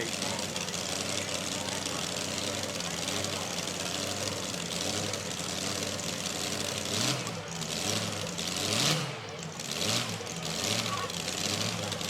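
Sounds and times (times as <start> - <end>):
engine throttle revs: 0.0 - 12.0
truck engine idling unevenly: 0.0 - 12.0.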